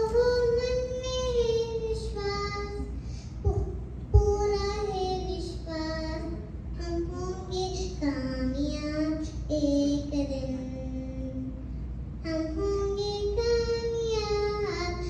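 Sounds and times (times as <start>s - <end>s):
girl singing into microphone: 0.0s - 15.0s.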